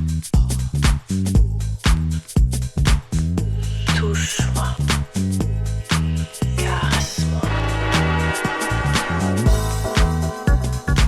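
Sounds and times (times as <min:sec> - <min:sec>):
steady kick drum: 0:00.0 - 0:04.3, 0:04.9 - 0:11.0
deep house music: 0:00.0 - 0:11.0
pitched bass line: 0:00.0 - 0:11.0.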